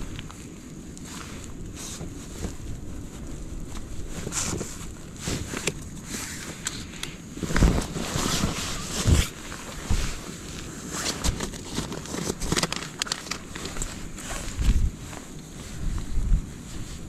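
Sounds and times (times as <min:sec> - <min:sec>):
rustling and crunching clicks: 0:00.0 - 0:17.0
wind buffeting microphone: 0:00.0 - 0:17.0.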